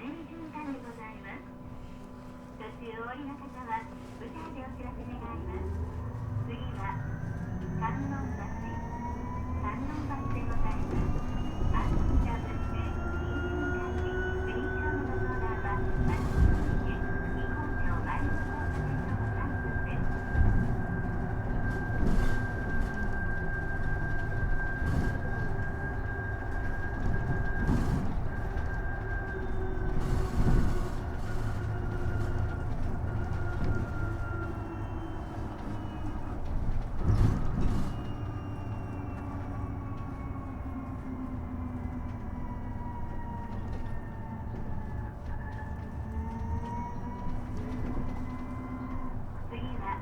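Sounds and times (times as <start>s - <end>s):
road rumble: 4.1s - 50.0s.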